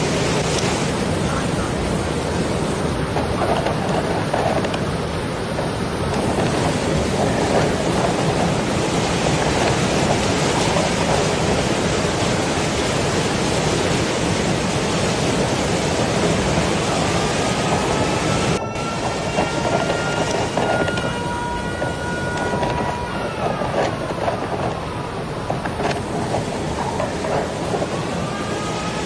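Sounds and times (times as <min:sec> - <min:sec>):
heavy rain pouring: 0:00.0 - 0:29.0
thunder rumble: 0:00.0 - 0:29.0.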